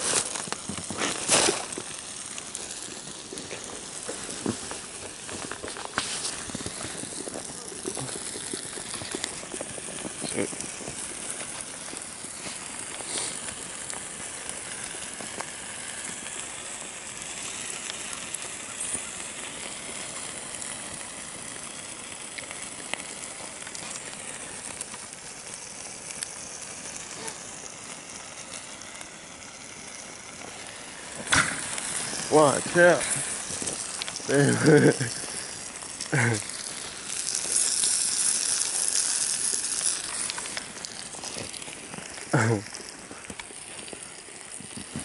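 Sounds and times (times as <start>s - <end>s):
fire popping: 0.0s - 45.0s
trash fire crackling and hissing: 0.0s - 45.0s.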